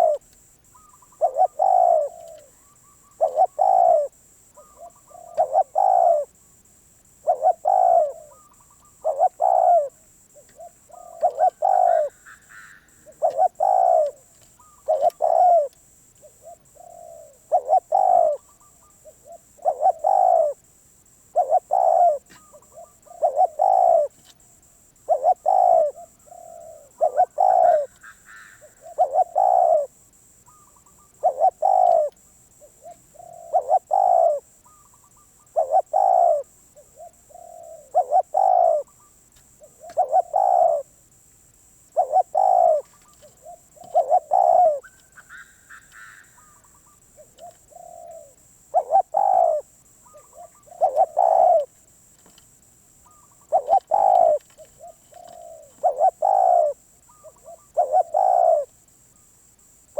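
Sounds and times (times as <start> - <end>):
dove cooing: 0.0 - 6.4, 7.1 - 20.7, 21.3 - 24.3, 24.9 - 41.0, 41.9 - 51.8, 53.0 - 58.8.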